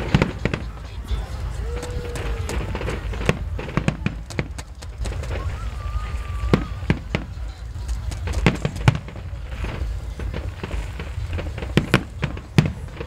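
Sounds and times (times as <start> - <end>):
steady low rumble: 0.0 - 13.0
firework shells bursting: 1.8 - 13.0.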